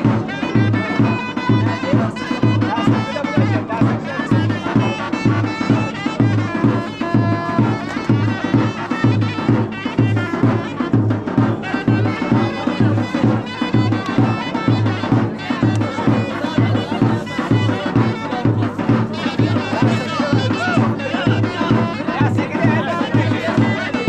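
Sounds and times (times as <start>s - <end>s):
drum beat: 0.0s - 24.0s
reedy shawm melody: 0.0s - 24.0s.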